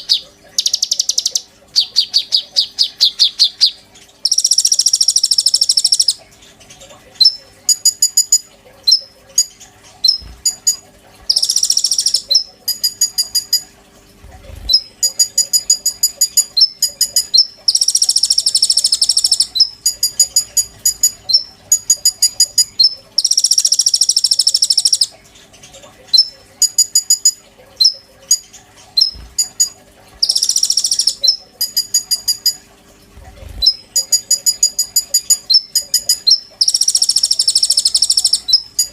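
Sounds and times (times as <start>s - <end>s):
songbird singing buzzy rattling song: 0.0s - 13.7s, 14.5s - 32.6s, 33.4s - 38.9s.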